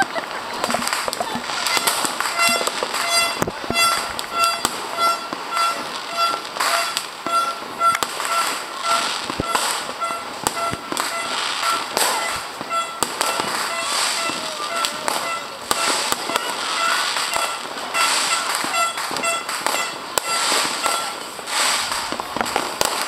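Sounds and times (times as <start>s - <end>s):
firecrackers banging and crackling: 0.0s - 23.0s
firework whistles: 0.6s - 23.0s
high beeping tone: 1.4s - 21.2s.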